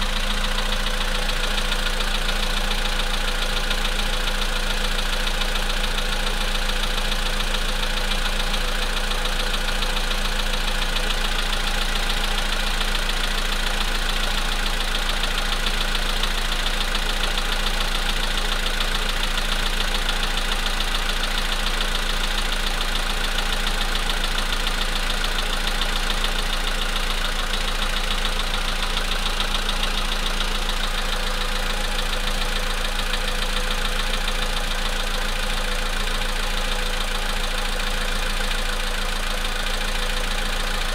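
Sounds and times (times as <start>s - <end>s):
car engine idling: 0.0s - 40.9s
rapid engine knocking: 0.0s - 40.9s.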